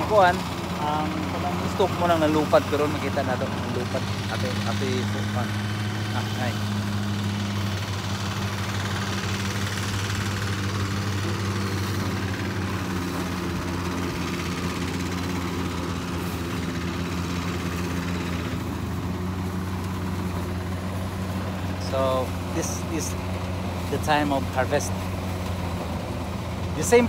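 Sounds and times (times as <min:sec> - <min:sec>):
thresher engine humming: 0:00.0 - 0:27.0.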